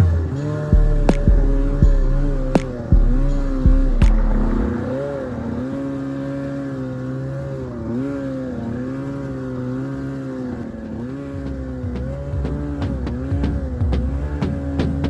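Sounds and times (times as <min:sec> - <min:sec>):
two-stroke snowmobile engine running: 0:00.0 - 0:15.0.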